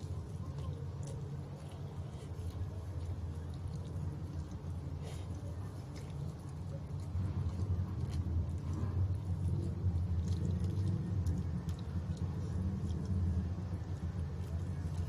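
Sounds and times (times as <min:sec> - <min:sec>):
man chewing crispy chicken: 0:00.0 - 0:15.0
steady low rumble: 0:00.0 - 0:15.0.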